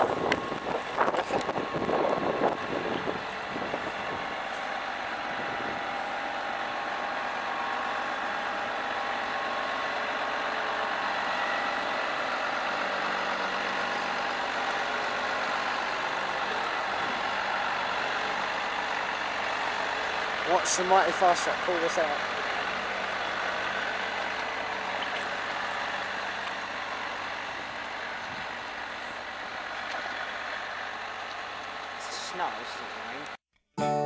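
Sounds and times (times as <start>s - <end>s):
diesel engine running: 0.0s - 33.4s.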